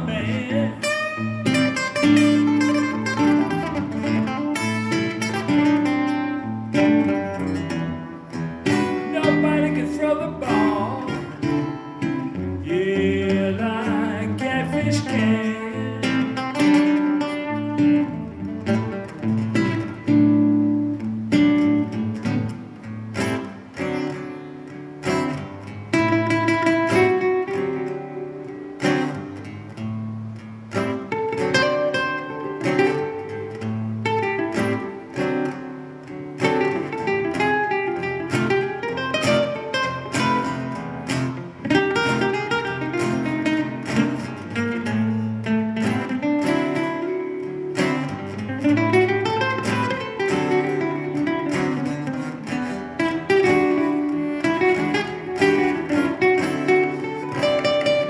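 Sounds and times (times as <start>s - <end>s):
acoustic guitars playing: 0.0s - 58.0s.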